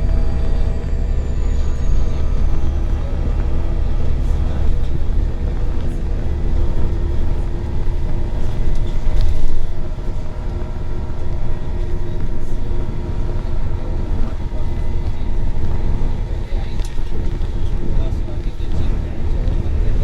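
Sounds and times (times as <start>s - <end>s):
bus engine rumbling: 0.0s - 20.0s
drivetrain whine: 0.0s - 20.0s.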